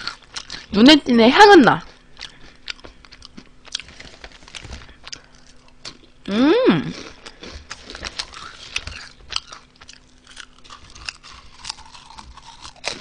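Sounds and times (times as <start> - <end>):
potato chips crunching: 0.0 - 0.8, 1.8 - 6.2, 6.8 - 13.0.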